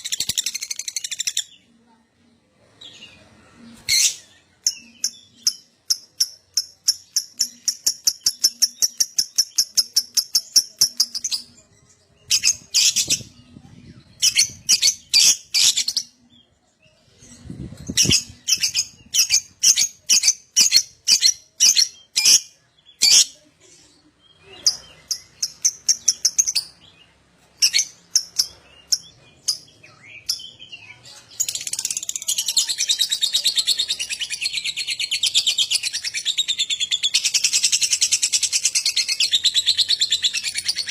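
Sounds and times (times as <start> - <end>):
lovebird chirping: 0.0 - 2.0, 2.8 - 40.9.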